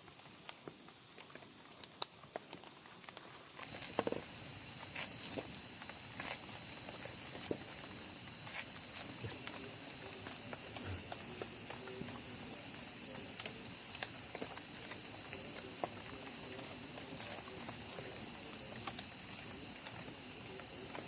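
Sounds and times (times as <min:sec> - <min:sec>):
insects buzzing: 0:00.0 - 0:21.0
low insect drone: 0:00.0 - 0:21.0.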